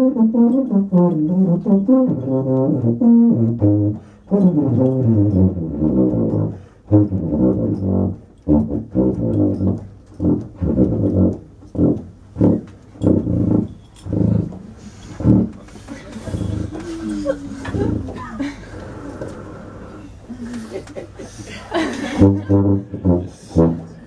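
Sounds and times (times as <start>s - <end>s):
low brass playing jazz: 0.0s - 20.4s, 21.8s - 24.0s.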